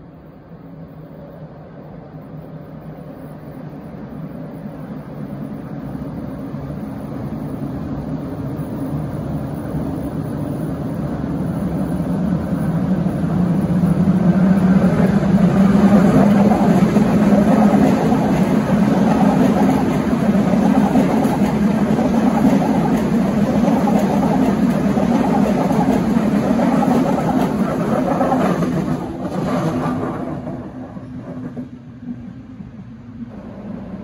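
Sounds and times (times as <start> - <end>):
electric train hum: 0.0 - 34.0.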